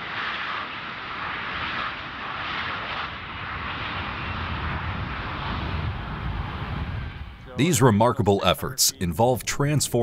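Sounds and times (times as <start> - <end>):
deep rumble of aircraft rolling: 0.0 - 10.0
jet engines running: 0.0 - 10.0.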